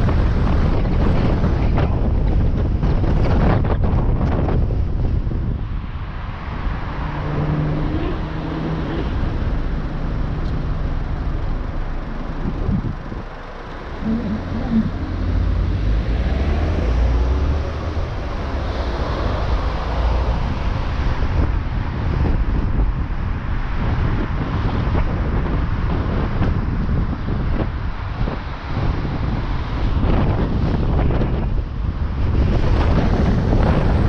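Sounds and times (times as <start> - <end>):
low rumble: 0.0 - 28.4
vehicle driving on road: 0.0 - 34.0.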